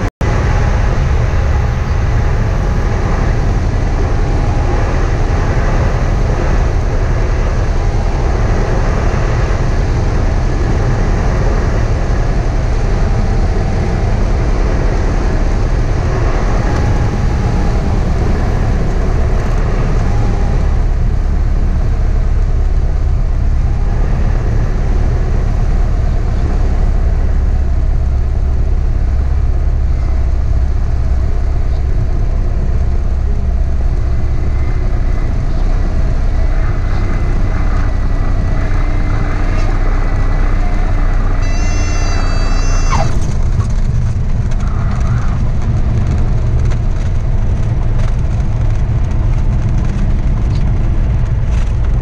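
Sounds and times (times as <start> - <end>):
airplane engine and propeller drone: 0.0 - 52.0.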